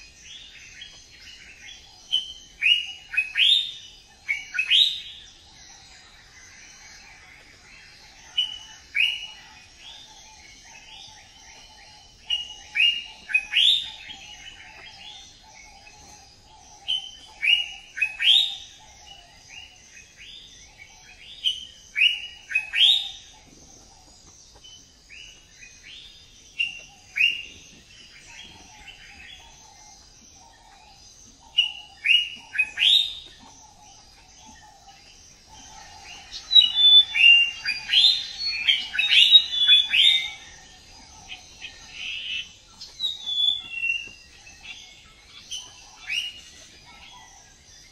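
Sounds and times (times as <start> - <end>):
birds chirping: 0.0 - 47.9
birds singing whistled notes: 0.0 - 47.9.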